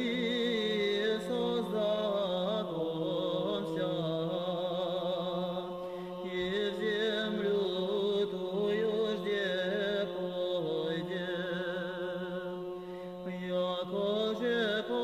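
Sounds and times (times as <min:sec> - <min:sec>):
male choir chanting: 0:00.0 - 0:15.0.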